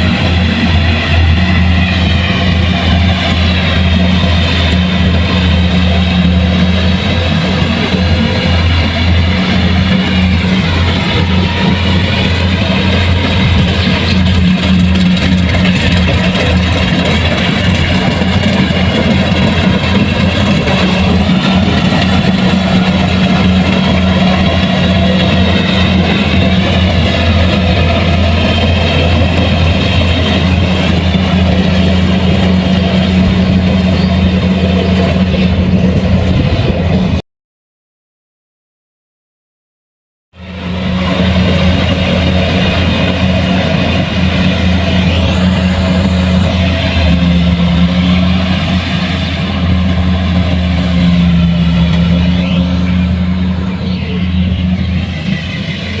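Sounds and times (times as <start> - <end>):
combine harvester engine drone: 0.0 - 37.2, 40.4 - 56.0.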